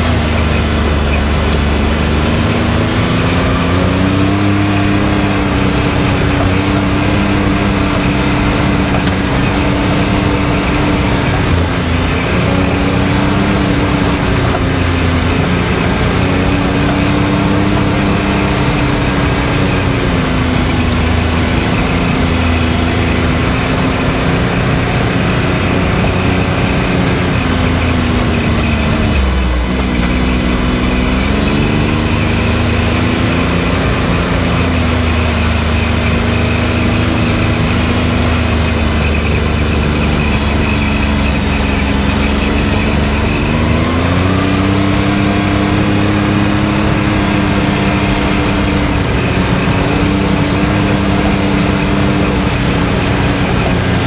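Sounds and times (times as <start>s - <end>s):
off-road vehicle engine droning: 0.0s - 54.0s
steady high whine: 0.0s - 54.0s.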